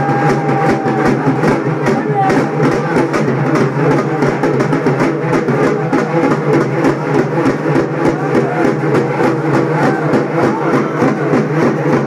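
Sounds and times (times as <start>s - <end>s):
frame drums beaten with sticks: 0.0s - 12.0s.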